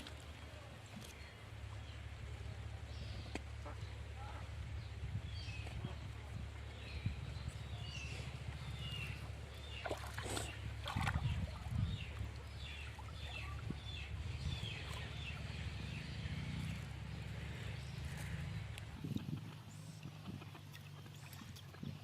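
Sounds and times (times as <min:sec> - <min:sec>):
steady low rumble: 0:00.2 - 0:20.6
birds chirping: 0:02.7 - 0:22.0.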